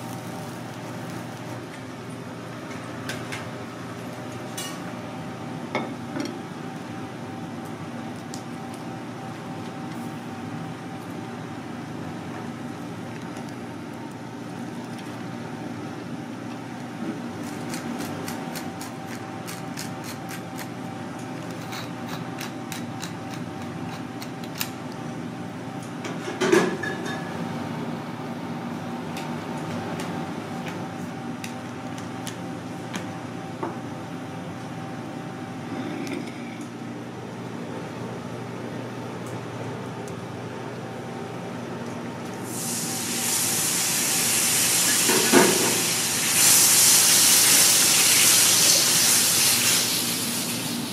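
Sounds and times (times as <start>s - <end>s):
ventilation fan humming: 0.0s - 50.9s.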